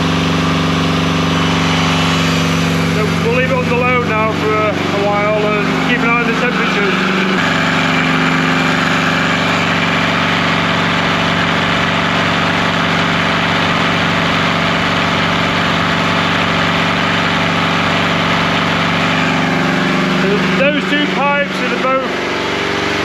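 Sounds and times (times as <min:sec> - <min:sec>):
generator engine running steadily: 0:00.0 - 0:23.0
radiator cooling fan: 0:00.0 - 0:23.0.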